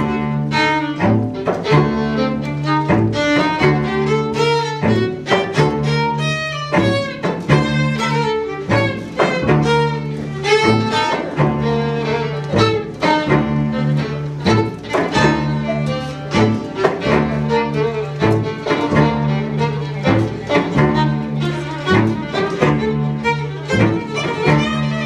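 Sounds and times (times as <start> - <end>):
string ensemble playing lively tune: 0.0 - 25.0.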